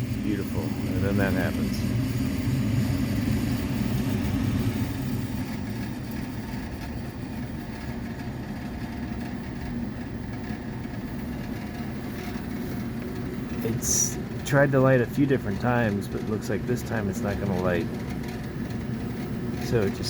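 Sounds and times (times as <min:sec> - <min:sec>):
furnace rumbling: 0:00.0 - 0:20.0.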